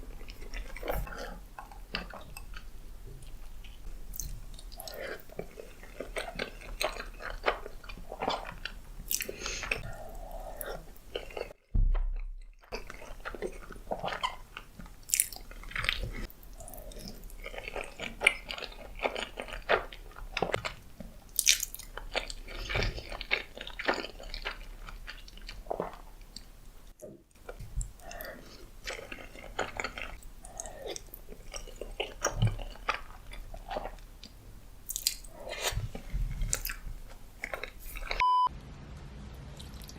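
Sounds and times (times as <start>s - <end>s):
chewing and biting spaghetti: 0.0s - 11.6s, 12.5s - 26.5s, 27.4s - 38.2s.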